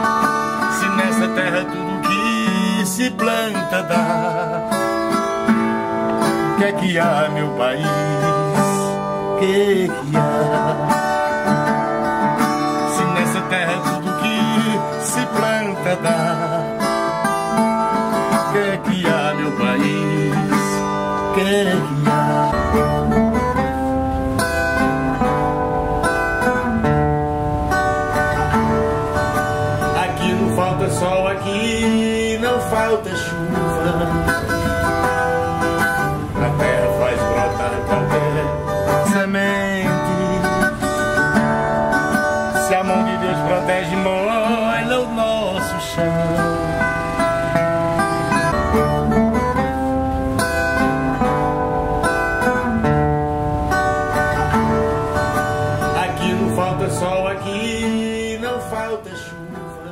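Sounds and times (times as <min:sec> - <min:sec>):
plucked guitar music: 0:00.0 - 0:59.9.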